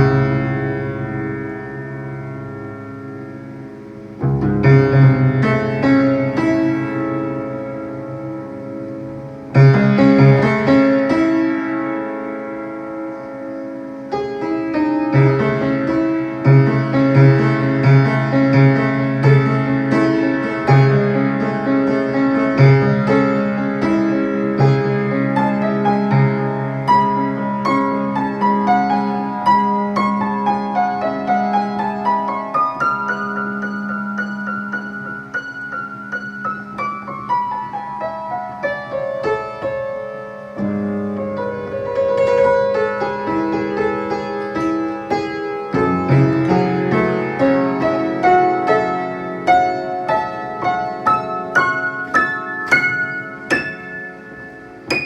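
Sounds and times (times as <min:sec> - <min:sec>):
solo piano chords: 0:00.0 - 0:55.0.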